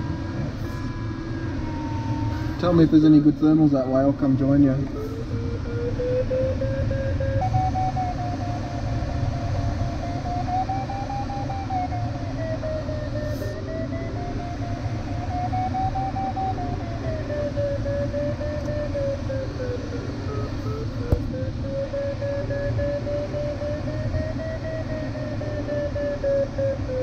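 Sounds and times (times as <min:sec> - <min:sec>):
wavering electronic tone: 0:00.0 - 0:27.0.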